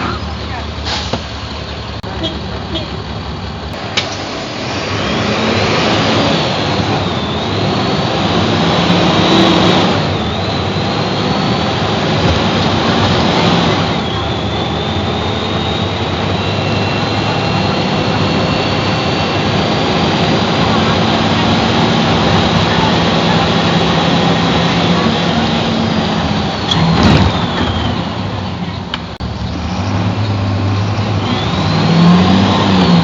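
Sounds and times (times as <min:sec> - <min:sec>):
bus engine accelerating: 0:00.0 - 0:33.0
high engine whine: 0:00.0 - 0:33.0.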